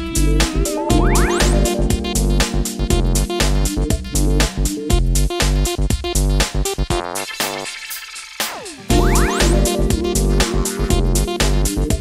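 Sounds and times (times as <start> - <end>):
electronic music with heavy bass: 0.1 - 12.0.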